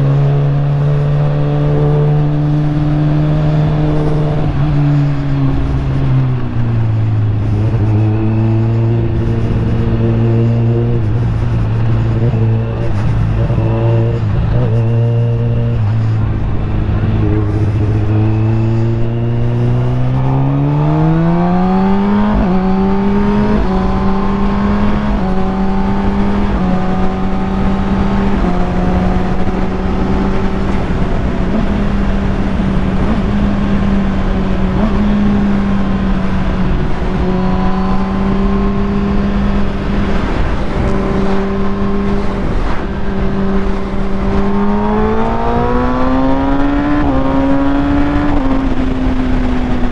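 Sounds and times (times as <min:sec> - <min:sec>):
motorcycle engine revving: 0:00.0 - 0:49.9
wind and road noise: 0:00.0 - 0:49.9.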